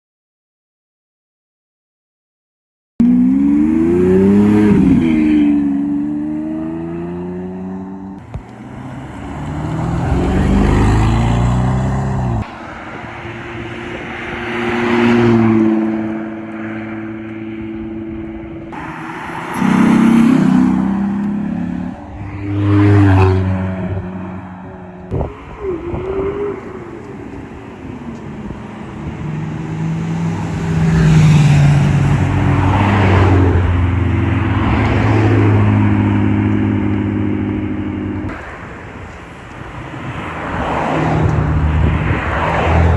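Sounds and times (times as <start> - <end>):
cars accelerating past: 3.0 - 42.9.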